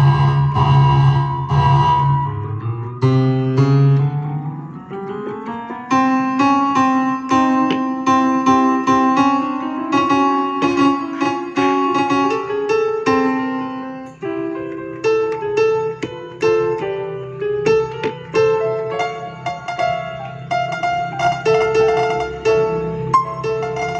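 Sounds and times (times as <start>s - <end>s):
keyboard piano melody: 0.0s - 23.9s.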